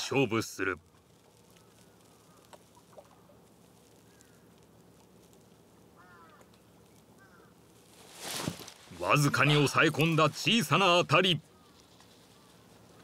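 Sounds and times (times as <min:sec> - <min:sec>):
distant bird calls: 0:01.0 - 0:13.0.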